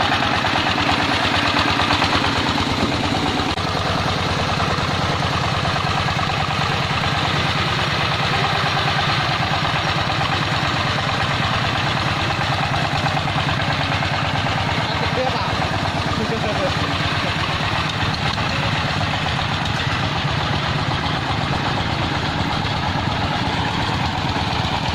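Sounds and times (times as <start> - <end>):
diesel engine chugging: 0.0 - 24.9.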